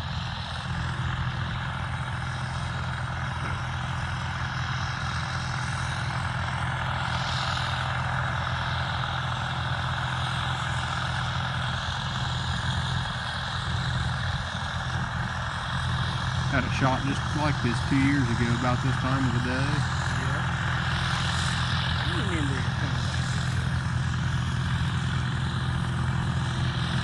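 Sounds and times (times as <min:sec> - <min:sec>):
combine harvester engine drone: 0:00.0 - 0:27.0.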